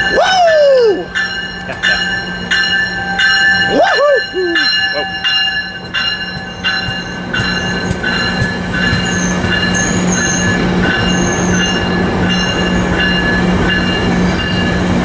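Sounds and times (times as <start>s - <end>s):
train low hum: 0.0s - 15.0s
train wheels squealing: 2.5s - 15.0s.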